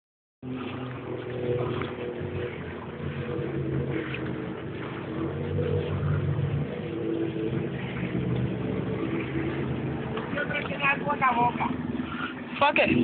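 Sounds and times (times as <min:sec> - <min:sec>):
jet ski engine running: 0:00.4 - 0:13.0.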